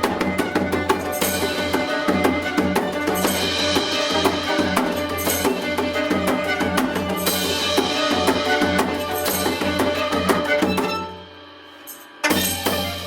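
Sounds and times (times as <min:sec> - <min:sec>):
fast dense drumming: 0:00.0 - 0:11.3
plucked zither: 0:00.0 - 0:13.0.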